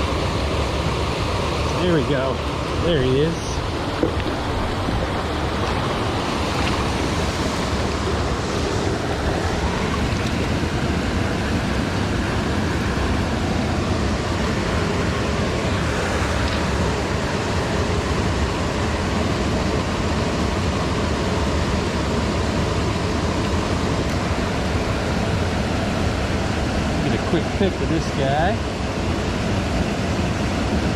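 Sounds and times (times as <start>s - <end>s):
stream water rushing: 0.0s - 30.9s.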